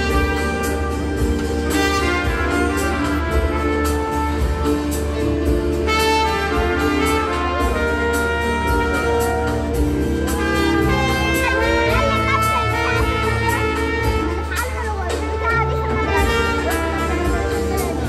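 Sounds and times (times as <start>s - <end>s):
band music with steady beat: 0.0s - 18.0s
trumpet playing jazzy tune: 0.0s - 18.0s.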